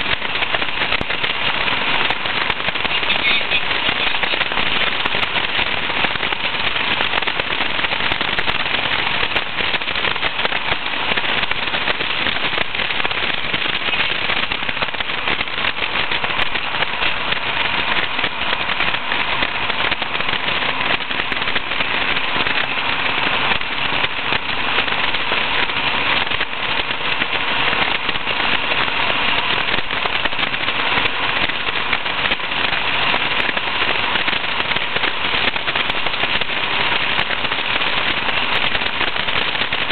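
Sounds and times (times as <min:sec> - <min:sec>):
car engine running: 0:00.0 - 0:39.9
wind buffeting microphone: 0:00.0 - 0:39.9.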